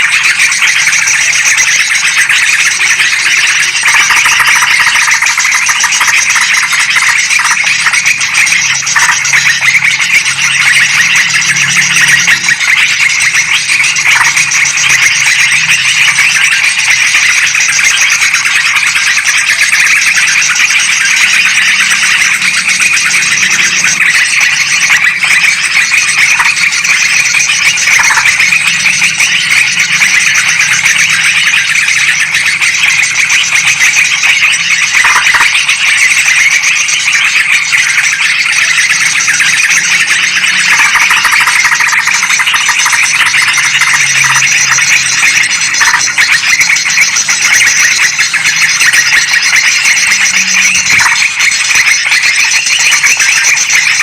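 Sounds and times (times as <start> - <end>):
birds chattering chorus: 0.0 - 54.0.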